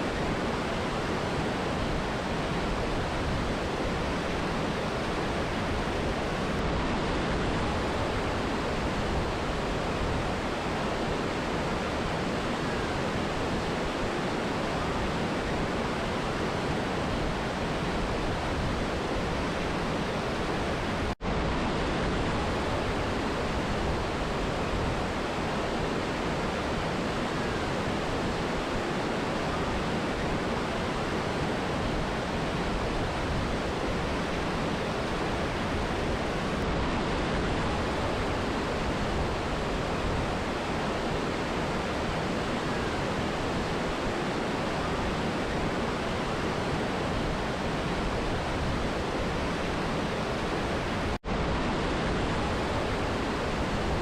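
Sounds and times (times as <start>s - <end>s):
river and waterfall rushing: 0.0s - 54.0s.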